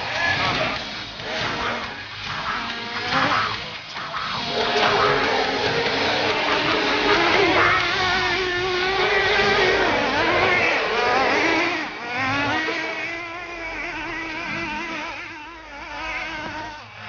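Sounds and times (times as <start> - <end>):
small nitro engines revving: 0.0 - 17.0.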